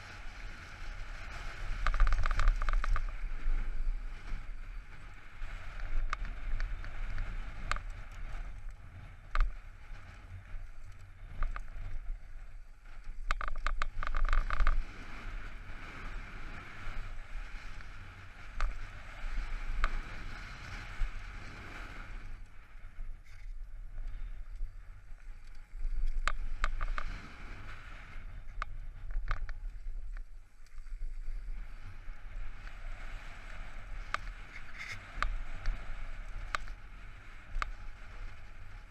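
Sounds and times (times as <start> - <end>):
bike tyres rolling: 0.0 - 38.9
wind rumbling on microphone: 0.0 - 38.9.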